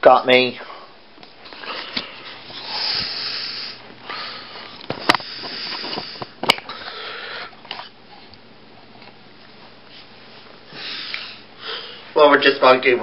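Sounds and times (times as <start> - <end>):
breathy handling noise: 0.6 - 12.2.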